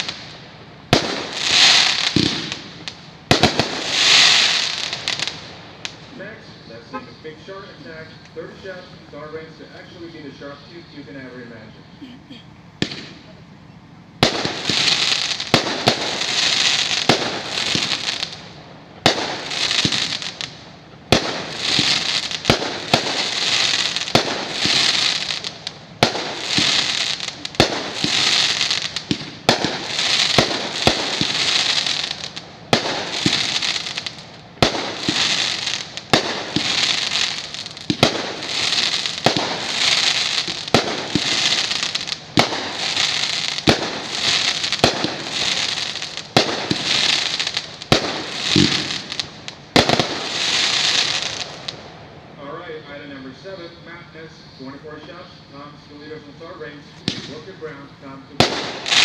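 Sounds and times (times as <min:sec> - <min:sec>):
firework bangs: 0:00.0 - 0:11.7, 0:12.8 - 0:13.4, 0:14.2 - 0:54.0, 0:54.6 - 0:59.0
firework hissing crackle: 0:00.0 - 0:59.0.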